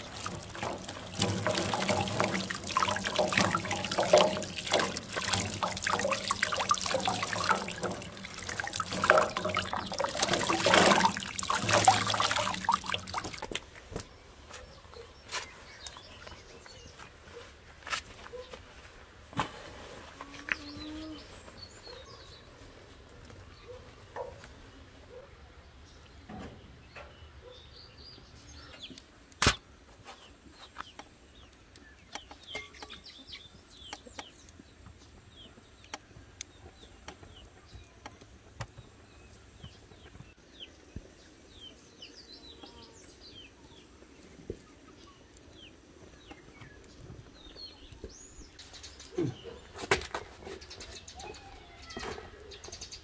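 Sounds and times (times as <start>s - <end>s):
small birds chirping: 0.0s - 17.5s, 20.3s - 29.4s, 30.0s - 53.0s.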